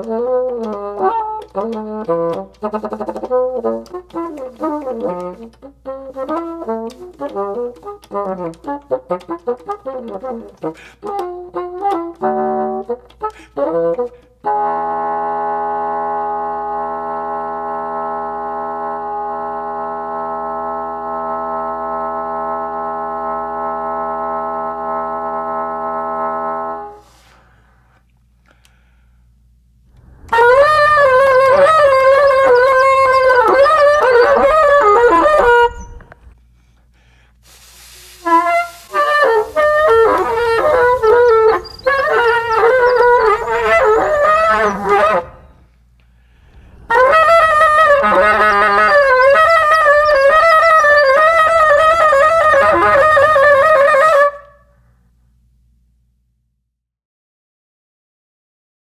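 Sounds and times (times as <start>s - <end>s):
bassoon playing trilling lines: 0.0s - 27.0s, 29.9s - 36.4s, 38.2s - 45.7s, 46.3s - 54.6s.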